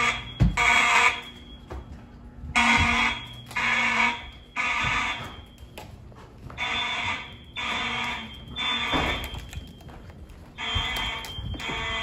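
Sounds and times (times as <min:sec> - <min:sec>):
fire alarm horns buzzing: 0:00.0 - 0:12.0.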